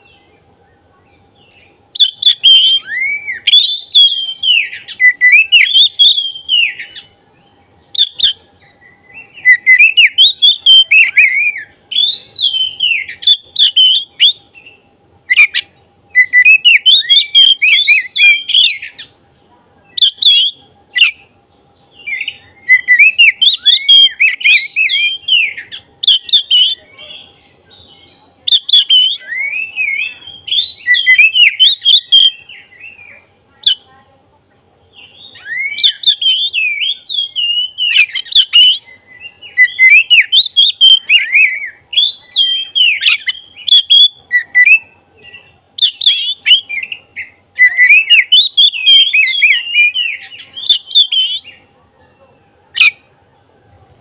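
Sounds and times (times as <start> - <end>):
magpie-robin whistled song: 0.0 - 19.2, 19.8 - 33.9, 34.9 - 53.1.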